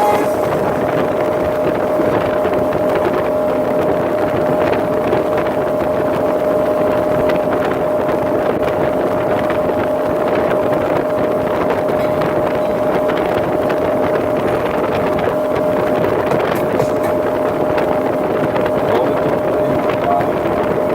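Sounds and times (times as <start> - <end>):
motorboat engine drone: 0.0 - 20.9
wind buffeting microphone: 0.0 - 20.9.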